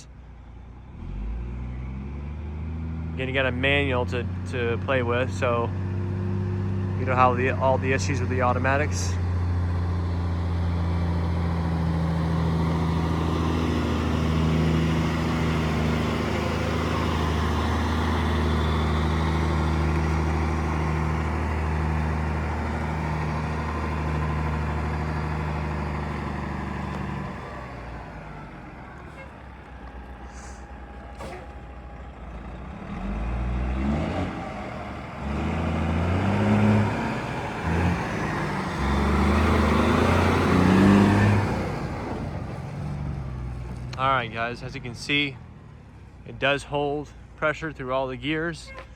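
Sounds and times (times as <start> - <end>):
truck engine revving up: 0.0 - 46.6
diesel truck engine running: 0.0 - 48.9.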